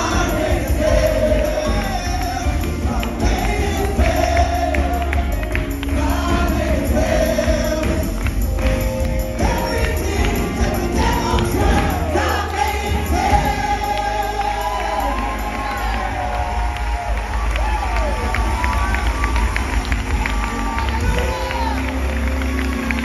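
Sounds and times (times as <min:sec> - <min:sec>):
drums bass and keyboard: 0:00.0 - 0:23.0
gospel singers on microphones: 0:00.0 - 0:23.0.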